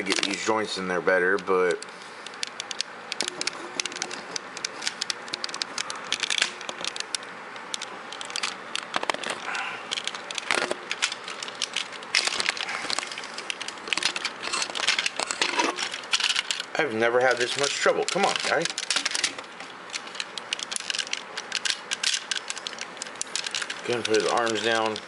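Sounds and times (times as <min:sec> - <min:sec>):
plastic toy parts clicking: 0:01.3 - 0:16.7, 0:17.3 - 0:25.0.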